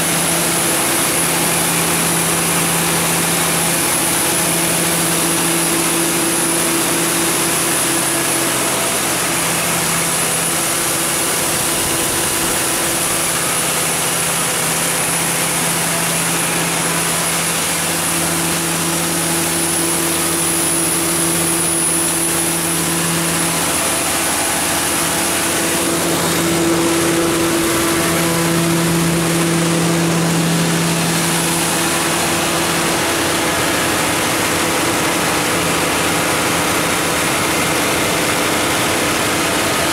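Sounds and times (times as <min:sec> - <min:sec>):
gas engine running steadily: 0:00.0 - 0:39.9.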